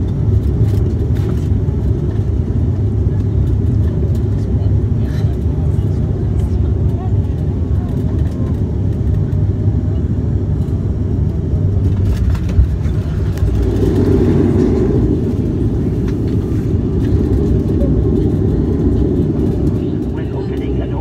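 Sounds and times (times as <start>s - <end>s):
airliner engine rumble: 0.0s - 21.0s.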